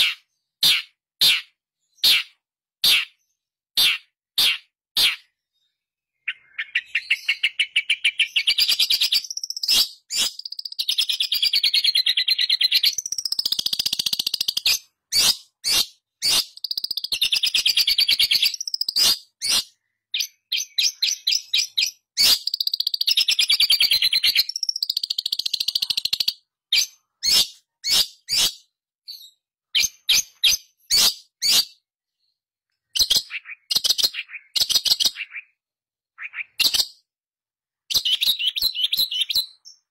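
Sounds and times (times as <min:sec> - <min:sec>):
bird singing harsh trills: 0:00.0 - 0:37.1, 0:37.7 - 0:39.9.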